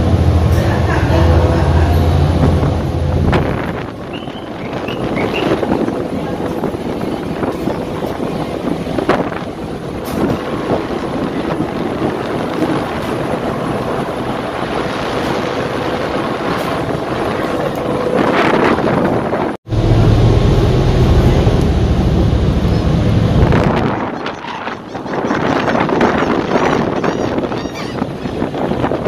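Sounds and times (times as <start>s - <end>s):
ferry engine rumble: 0.0s - 29.0s
wind buffeting microphone: 0.0s - 29.0s.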